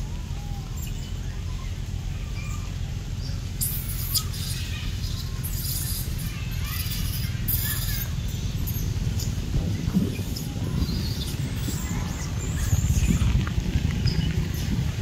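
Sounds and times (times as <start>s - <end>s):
motorbike engine rumbling: 0.0s - 15.0s
monkeys squeaking: 0.4s - 13.3s.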